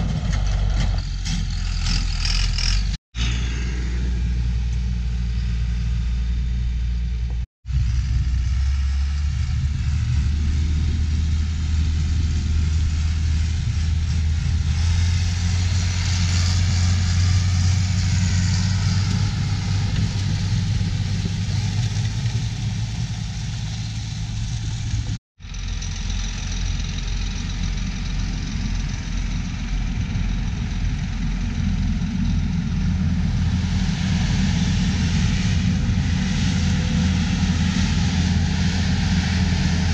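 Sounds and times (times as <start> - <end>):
skid steer loader engine running: 0.0 - 39.9
tractor diesel engine running: 0.0 - 39.9.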